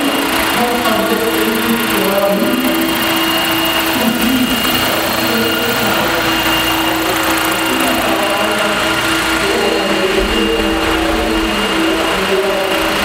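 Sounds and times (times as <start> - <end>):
model helicopter rotor drone: 0.0 - 13.0
thin high whine: 0.0 - 13.0.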